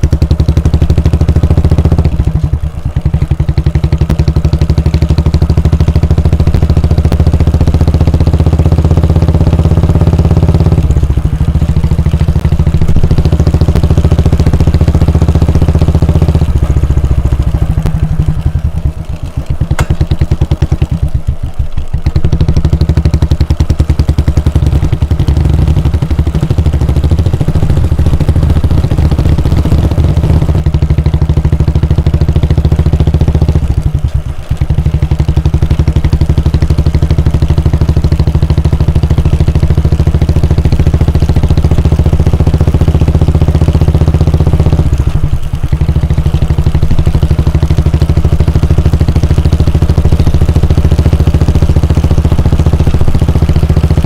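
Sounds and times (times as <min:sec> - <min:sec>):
motorcycle engine thumping: 0:00.0 - 0:54.0.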